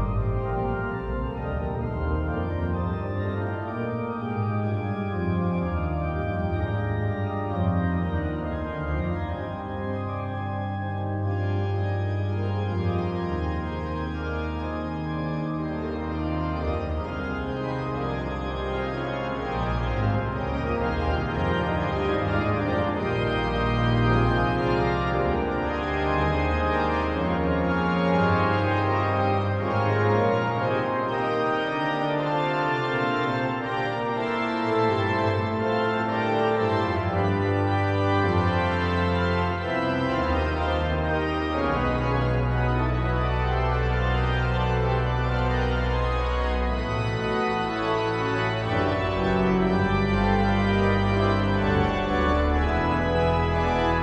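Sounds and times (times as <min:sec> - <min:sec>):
pipe organ playing chords: 0:00.0 - 0:54.0.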